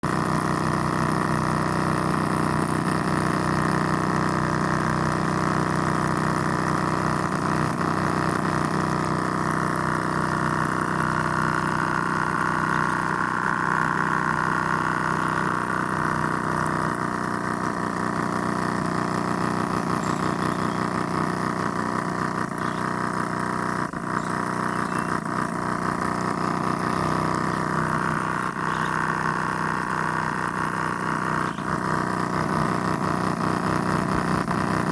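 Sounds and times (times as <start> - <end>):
drilling machine motor humming: 0.0 - 34.9.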